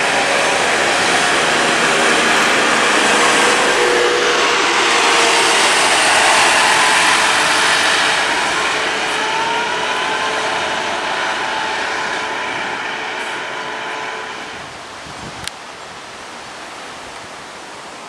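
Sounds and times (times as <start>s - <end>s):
bus driving away: 0.0s - 14.8s
faint rising whine: 0.0s - 15.0s.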